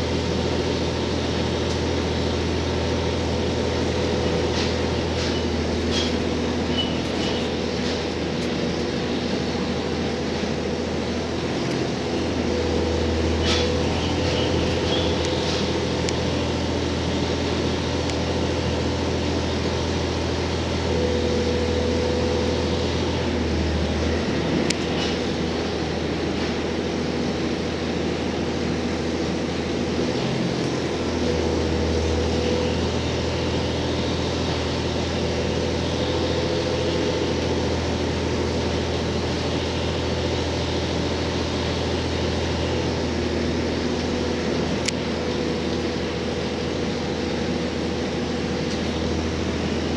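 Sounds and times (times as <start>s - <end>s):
diesel engine drone: 0.0s - 49.9s
train wheels rolling on rails: 0.0s - 49.9s.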